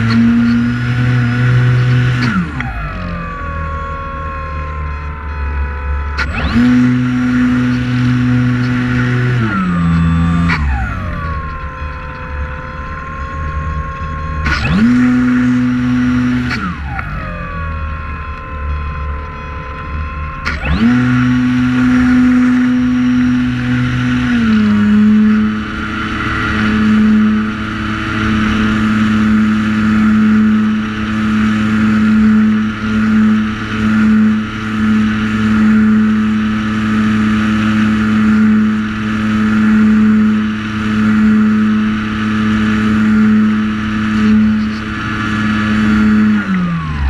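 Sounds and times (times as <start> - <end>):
drone propellers whining: 0.0 - 47.0.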